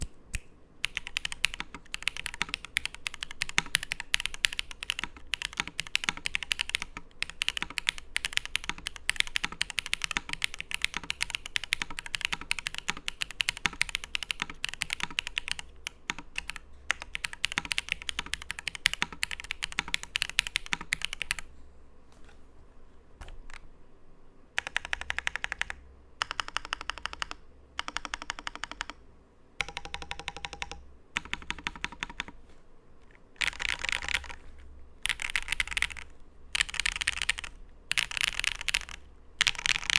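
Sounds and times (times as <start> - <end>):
typing on mechanical keyboard: 0.8 - 21.5, 24.6 - 29.0, 29.6 - 32.4, 33.4 - 39.9.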